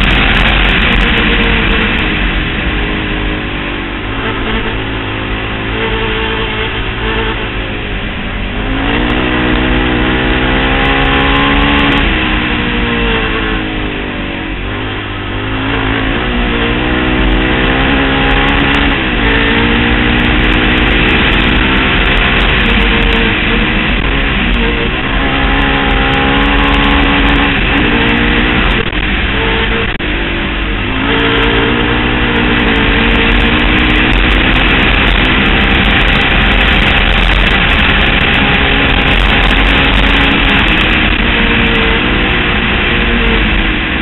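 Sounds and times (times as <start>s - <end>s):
quad engine revving hard: 0.0s - 44.0s.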